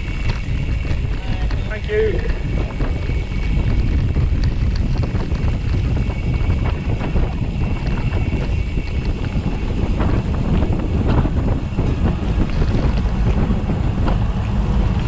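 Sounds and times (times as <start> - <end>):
bike tyres rolling on gravel: 0.0 - 15.0
wind buffeting microphone: 0.0 - 15.0.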